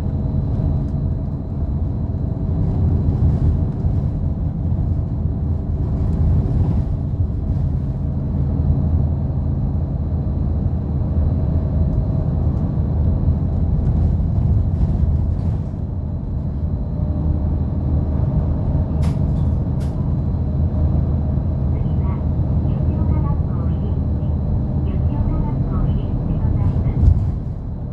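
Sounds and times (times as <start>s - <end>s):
bus diesel engine running: 0.0s - 27.9s.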